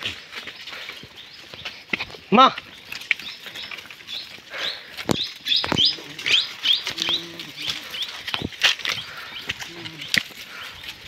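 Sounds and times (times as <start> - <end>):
footsteps on stony ground: 0.0 - 11.0
small birds chirping: 0.0 - 11.0.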